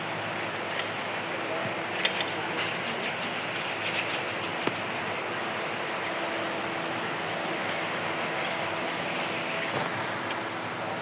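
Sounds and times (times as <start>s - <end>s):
wall fan running: 0.0s - 11.0s.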